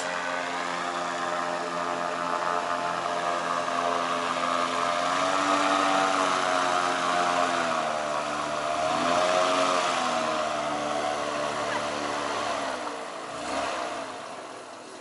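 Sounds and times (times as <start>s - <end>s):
airboat engine and propeller droning: 0.0s - 15.0s.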